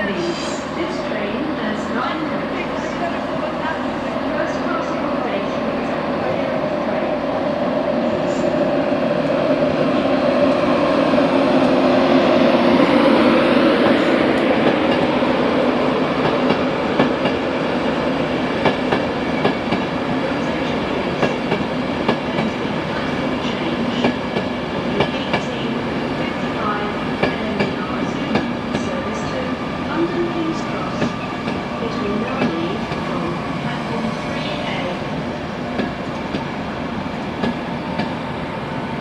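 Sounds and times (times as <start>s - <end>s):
low hum from train: 0.0s - 39.0s.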